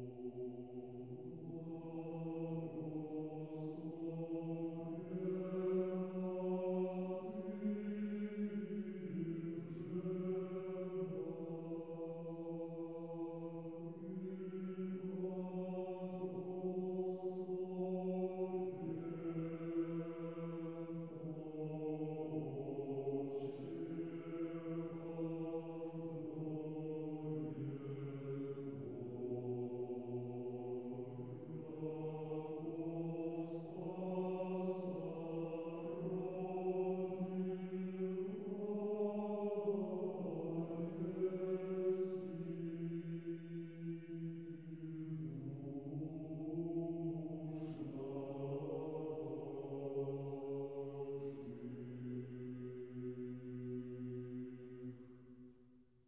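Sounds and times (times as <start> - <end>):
low voices chanting: 0.0 - 55.1.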